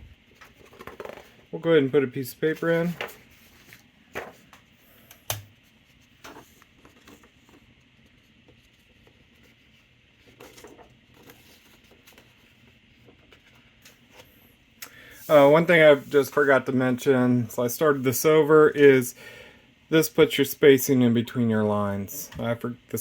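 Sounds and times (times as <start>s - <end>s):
steady low hiss: 0.0s - 23.0s.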